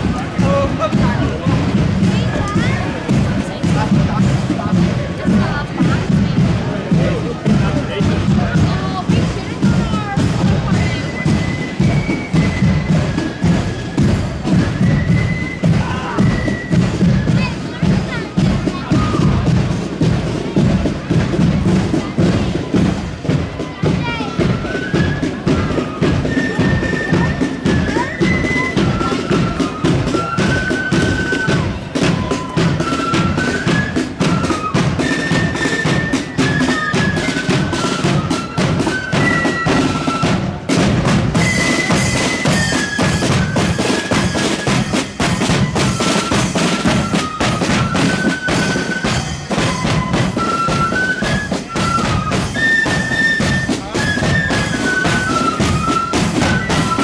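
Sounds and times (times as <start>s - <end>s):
flutes playing march melody: 0.0s - 57.0s
side drums: 0.0s - 57.0s.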